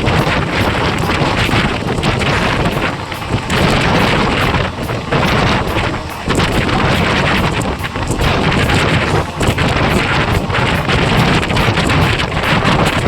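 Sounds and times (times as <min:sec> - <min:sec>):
train rumble: 0:00.0 - 0:13.0
wheels rattling and knocking: 0:00.0 - 0:13.0
wind buffeting microphone: 0:00.0 - 0:13.0.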